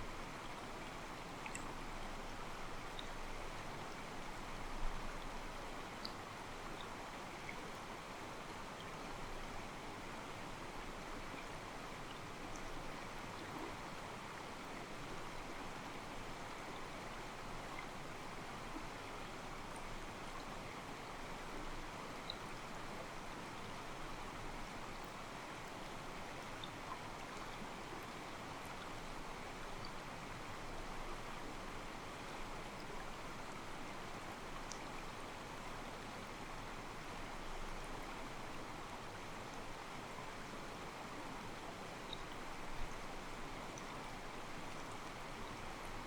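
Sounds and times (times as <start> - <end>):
stream trickling over rocks: 0.2 - 46.0.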